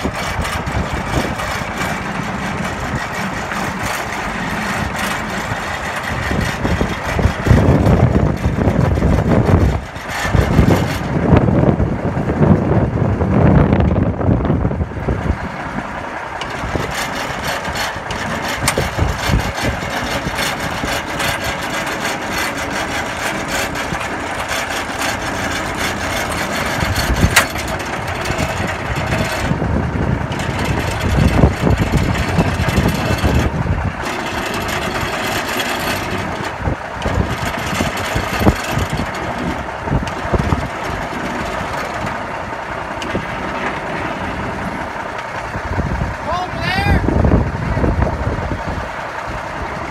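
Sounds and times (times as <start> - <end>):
truck diesel engines running: 0.0 - 49.9.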